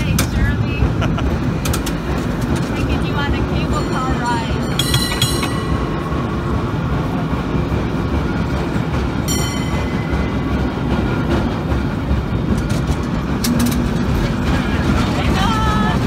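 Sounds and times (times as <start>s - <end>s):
cable car rumbling on rails: 0.0s - 16.0s.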